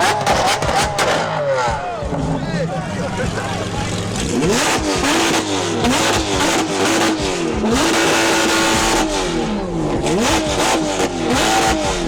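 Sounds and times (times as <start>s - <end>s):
sports car engine revving: 0.0s - 12.0s.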